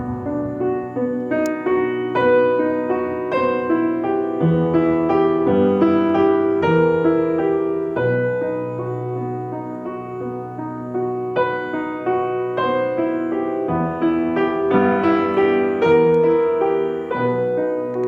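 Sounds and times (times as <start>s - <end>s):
slow piano notes and chords: 0.0s - 18.0s.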